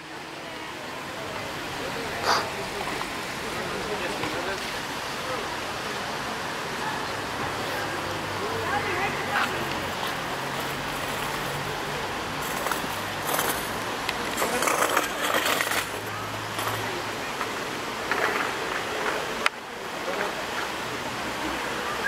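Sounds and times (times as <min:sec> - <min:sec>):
steady noisy hiss: 0:00.0 - 0:22.0.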